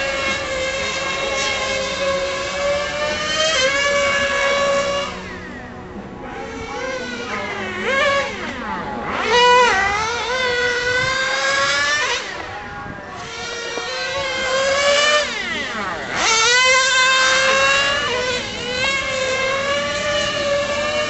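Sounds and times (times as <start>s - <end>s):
small engine screaming at high revs: 0.0s - 21.0s.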